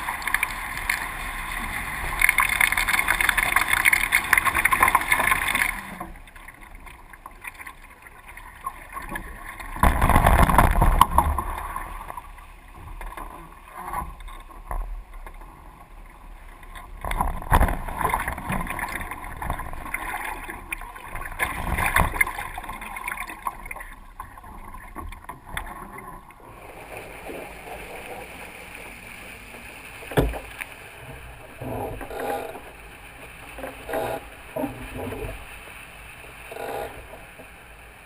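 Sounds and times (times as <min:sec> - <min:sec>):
water rushing past hulls: 0:00.0 - 0:38.0.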